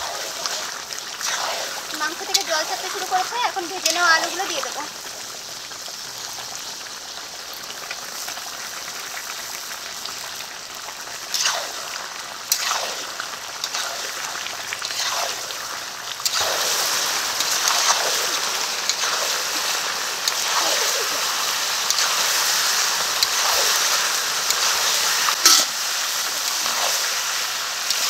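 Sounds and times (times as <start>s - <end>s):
curry sizzling and bubbling: 0.0s - 28.0s
potatoes sizzling: 0.0s - 28.0s.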